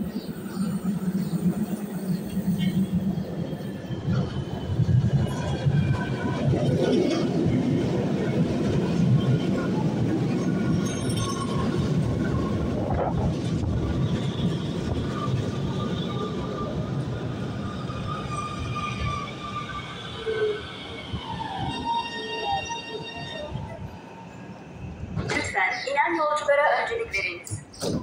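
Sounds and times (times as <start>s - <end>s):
metro train rumbling past: 0.0s - 28.0s.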